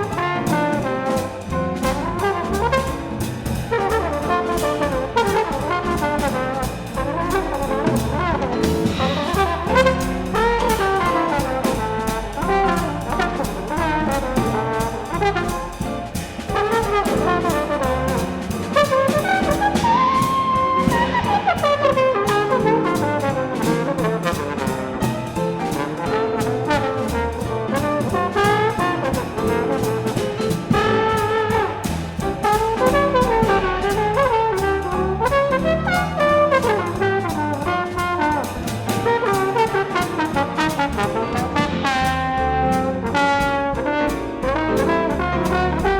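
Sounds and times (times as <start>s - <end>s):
jazz band playing: 0.0s - 45.9s
sliding horn note: 0.0s - 45.9s
trombone: 0.0s - 45.9s.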